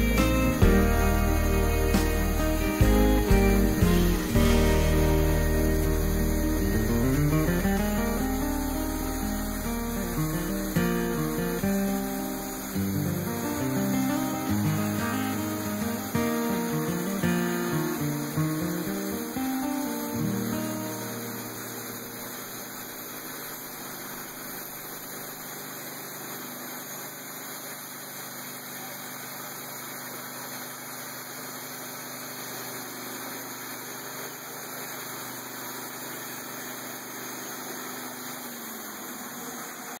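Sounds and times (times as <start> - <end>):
sawmill engine humming: 0.0 - 40.0.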